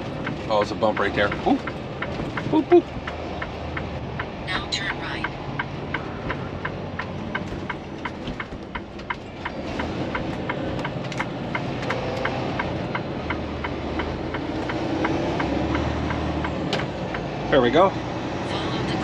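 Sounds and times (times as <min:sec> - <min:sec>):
turn signal clicking: 0:00.0 - 0:17.3
diesel engine drone: 0:00.0 - 0:19.0.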